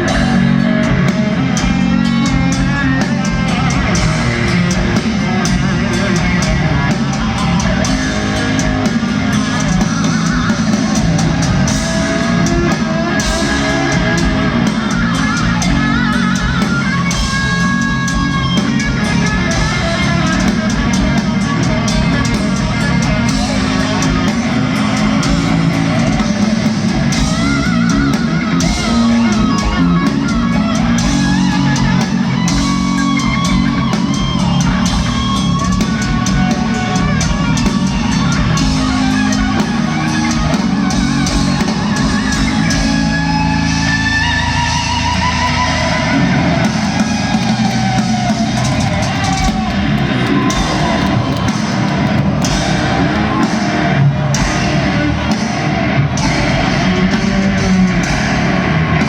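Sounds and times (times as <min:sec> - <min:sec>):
heavy metal band playing: 0:00.0 - 0:59.0.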